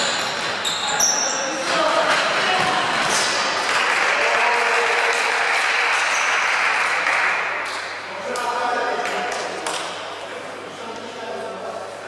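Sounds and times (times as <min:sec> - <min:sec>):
echoing noise of indoor ball game: 0:00.0 - 0:12.0.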